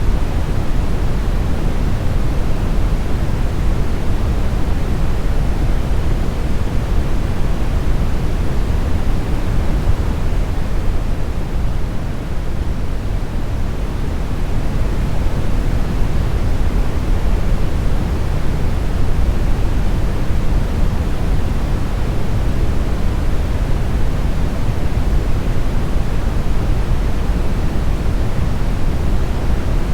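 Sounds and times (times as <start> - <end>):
brown noise rumbling hiss: 0.0 - 29.9.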